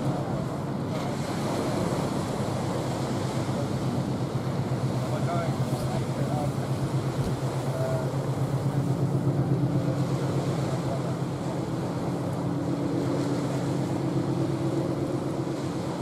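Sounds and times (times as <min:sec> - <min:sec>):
ship diesel engines droning: 0:00.0 - 0:16.0.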